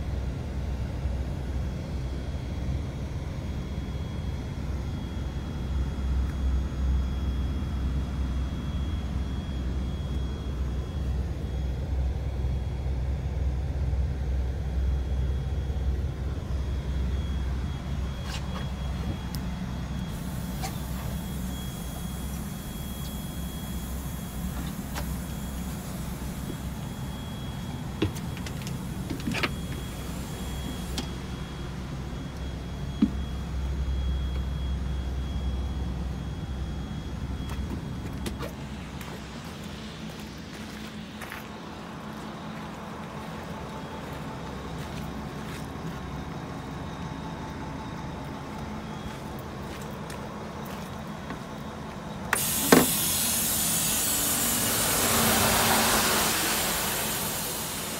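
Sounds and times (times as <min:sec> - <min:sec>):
diesel engine idling: 0:00.0 - 0:57.9
faint high whine: 0:00.0 - 0:57.9.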